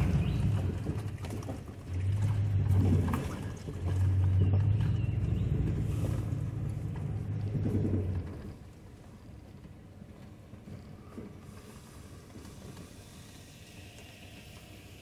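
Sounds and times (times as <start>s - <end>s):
truck engine droning in cab: 0.0s - 15.0s.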